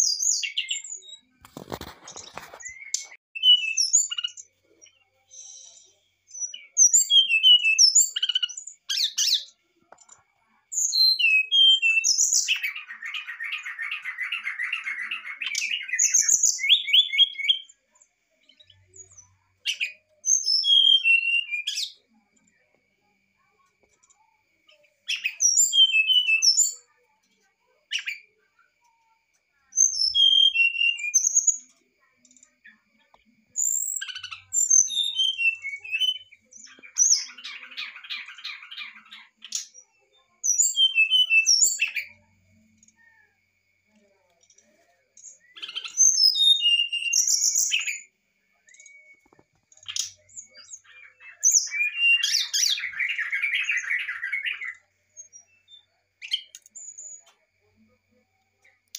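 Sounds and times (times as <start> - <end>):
bird whistled song: 0.0 - 22.7, 24.0 - 27.0, 27.8 - 28.7, 29.6 - 43.2, 43.9 - 57.4.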